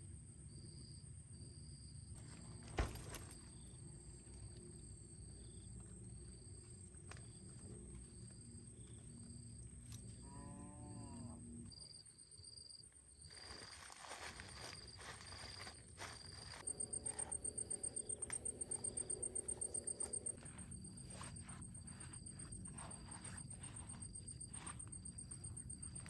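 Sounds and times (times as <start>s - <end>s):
insect chirp: 0.2s - 26.0s.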